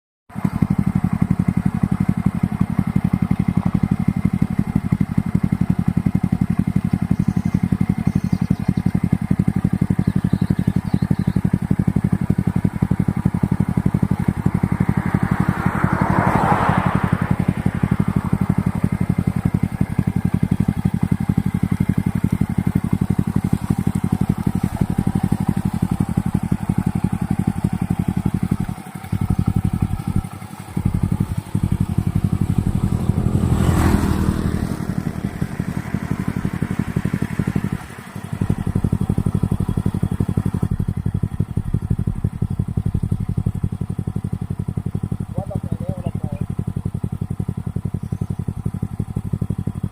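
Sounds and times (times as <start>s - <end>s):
minibike engine idling: 0.3s - 49.9s.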